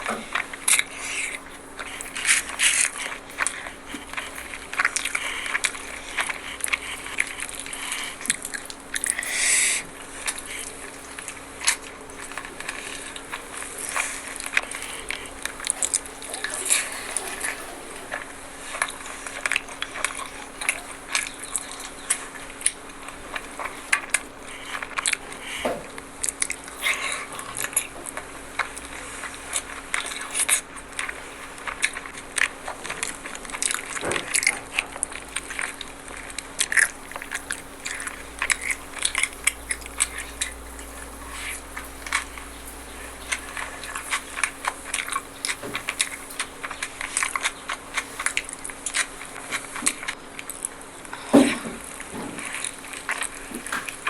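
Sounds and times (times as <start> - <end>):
faint steady hum: 0.0 - 54.0
person chewing and crunching food: 0.0 - 54.0.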